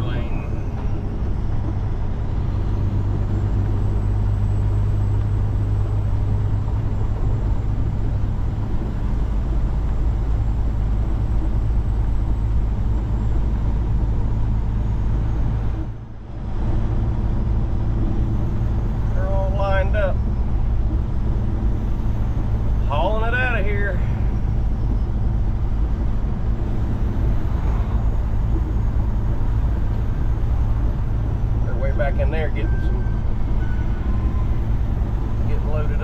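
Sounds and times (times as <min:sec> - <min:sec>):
truck diesel engine droning: 0:00.0 - 0:36.0.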